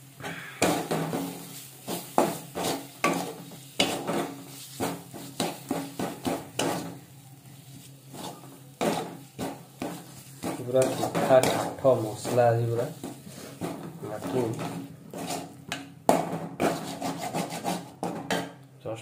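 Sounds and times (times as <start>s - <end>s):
paste sizzling in oil: 0.0s - 17.9s
spatula scraping metal pan: 0.3s - 7.0s, 8.0s - 18.0s.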